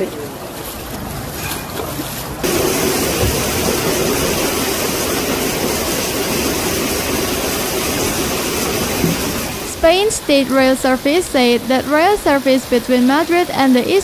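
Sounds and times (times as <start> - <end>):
fast-flowing floodwater rushing: 0.0 - 14.0.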